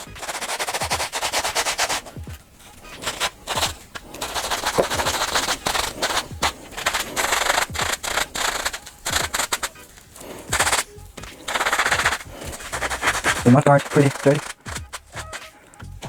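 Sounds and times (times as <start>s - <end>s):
brush scrubbing sneaker: 0.0s - 16.0s.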